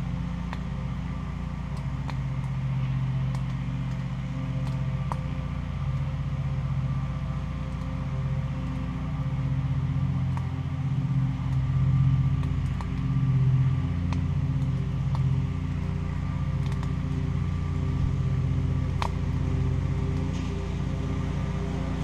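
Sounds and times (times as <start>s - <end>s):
low mechanical drone: 0.0s - 22.0s.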